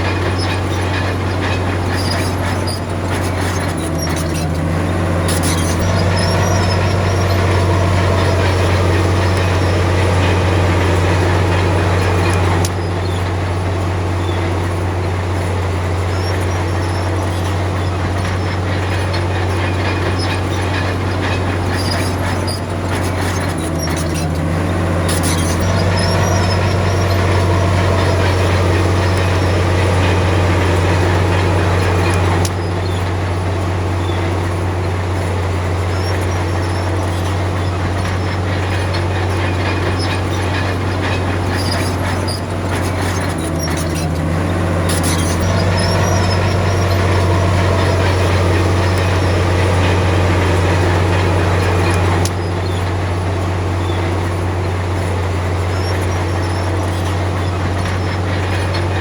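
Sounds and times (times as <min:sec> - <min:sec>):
diesel engine droning: 0:00.0 - 0:59.0
steel tracks clanking: 0:00.0 - 0:59.0.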